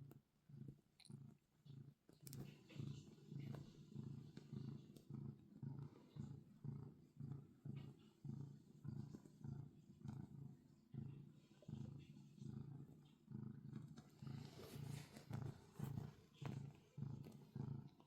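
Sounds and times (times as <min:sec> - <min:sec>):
cat purring: 0:00.0 - 0:18.0.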